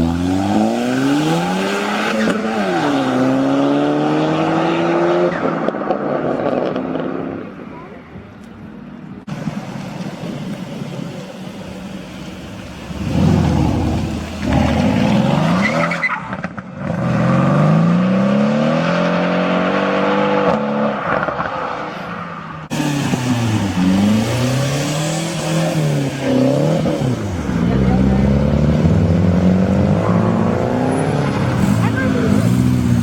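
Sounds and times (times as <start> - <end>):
car engines revving: 0.0 - 7.7, 8.7 - 33.0.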